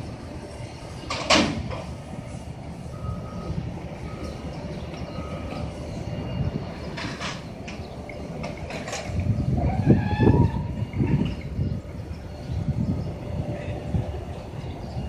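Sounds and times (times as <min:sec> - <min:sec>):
low rumble of traffic and machinery: 0:00.0 - 0:15.0
reversing alarm beeping: 0:02.2 - 0:15.0.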